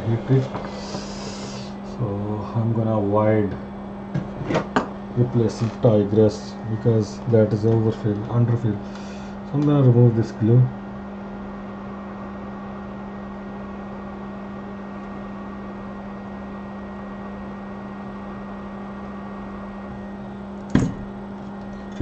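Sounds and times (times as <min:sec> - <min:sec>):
fan hiss: 0:00.0 - 0:17.6
electrical hum: 0:00.0 - 0:22.0.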